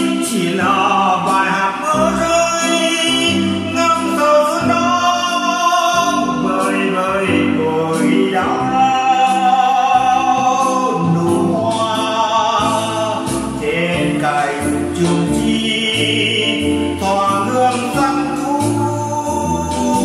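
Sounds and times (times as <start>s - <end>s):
organ accompaniment: 0.0s - 20.0s
slow song sung: 0.0s - 20.0s.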